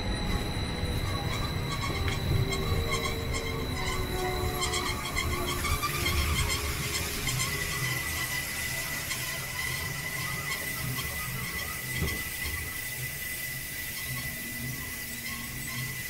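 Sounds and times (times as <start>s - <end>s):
train wheels squealing: 0.0s - 16.0s
wheels rumbling on track: 0.0s - 16.0s.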